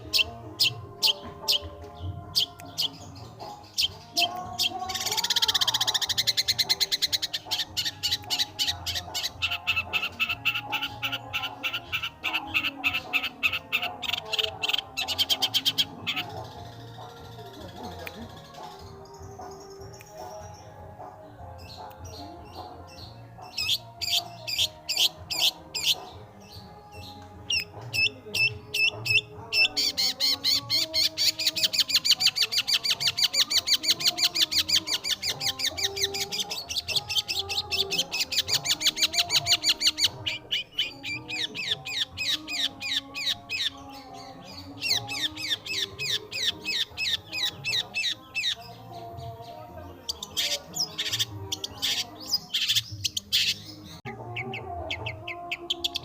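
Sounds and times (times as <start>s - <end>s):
background music: 0.0s - 56.0s.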